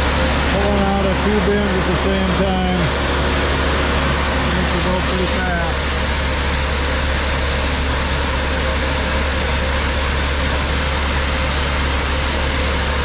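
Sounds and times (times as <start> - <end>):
grain augers rushing: 0.0 - 13.0.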